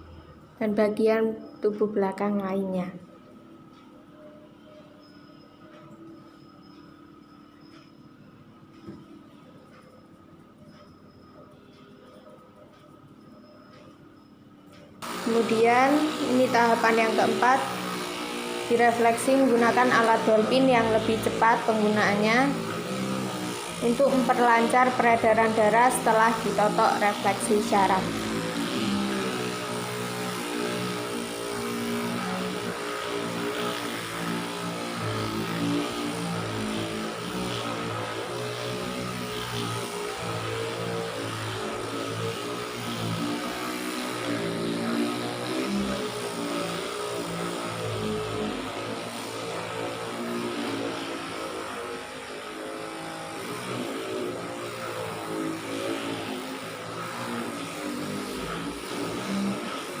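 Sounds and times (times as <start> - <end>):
electric massager buzzing: 0.0 - 60.0.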